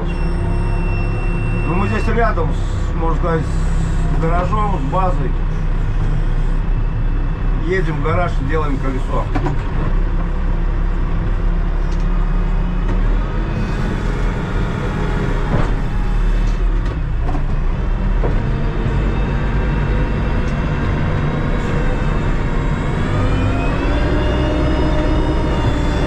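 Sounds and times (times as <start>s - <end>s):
backhoe diesel engine revving: 0.0s - 26.0s.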